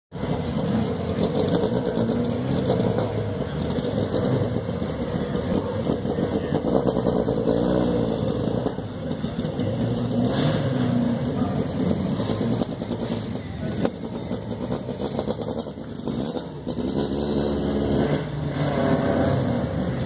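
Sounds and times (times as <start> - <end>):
rally car engines at low revs: 0.1 - 20.0.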